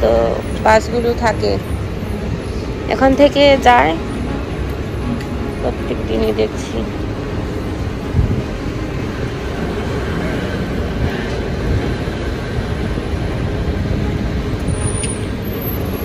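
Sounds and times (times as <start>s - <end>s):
buses idling: 0.0s - 16.0s
city street rumble: 0.0s - 16.0s.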